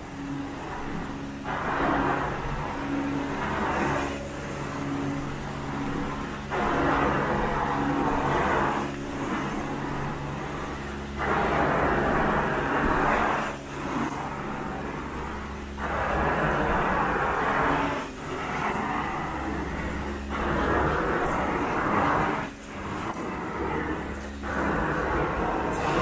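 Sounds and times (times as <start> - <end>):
carpet extraction suction rush: 0.0 - 26.0
steady machine hum: 0.0 - 26.0.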